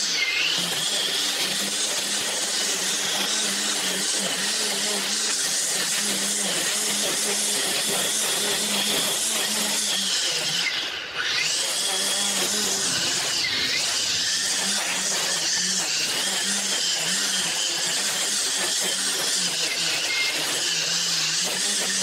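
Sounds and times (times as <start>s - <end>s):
string trimmer cutting grass: 0.0s - 22.0s.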